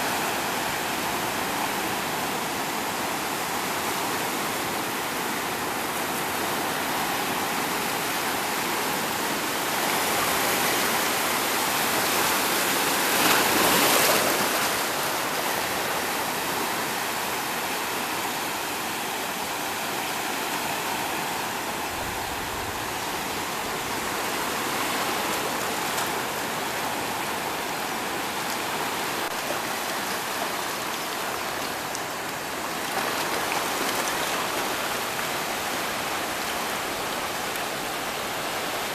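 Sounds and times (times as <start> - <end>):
sea surf breaking on shore: 0.0 - 38.9.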